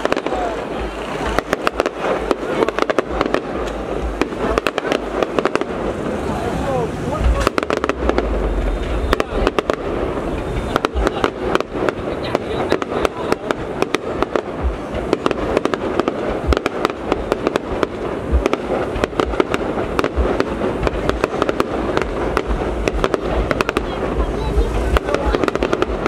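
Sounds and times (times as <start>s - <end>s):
fireworks bangs and crackles: 0.0s - 26.0s
steady background rumble: 0.0s - 26.0s.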